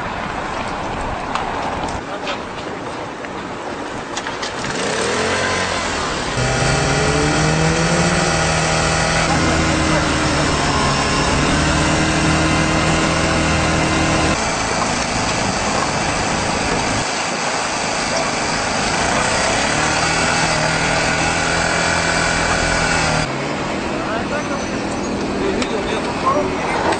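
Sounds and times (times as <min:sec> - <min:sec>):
road noise: 0:00.0 - 0:26.9
car engine hum: 0:04.7 - 0:26.9.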